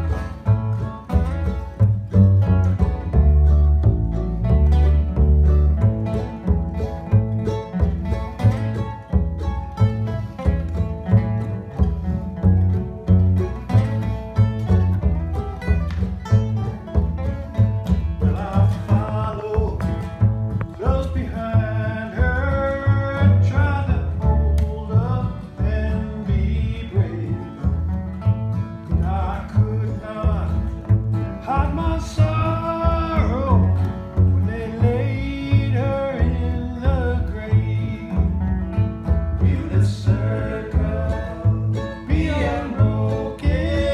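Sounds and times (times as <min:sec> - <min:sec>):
plucked double bass: 0:00.0 - 0:43.9
strummed acoustic guitar: 0:00.0 - 0:43.9.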